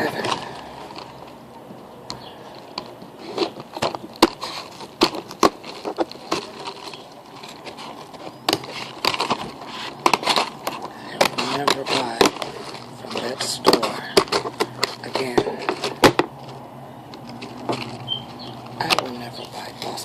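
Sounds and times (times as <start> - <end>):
cardboard box tearing and crackling: 0.0 - 1.4, 2.5 - 20.0.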